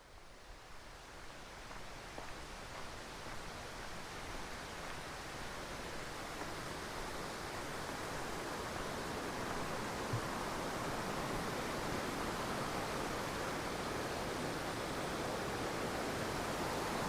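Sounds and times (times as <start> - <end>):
creek and waterfall rushing: 0.1 - 17.0.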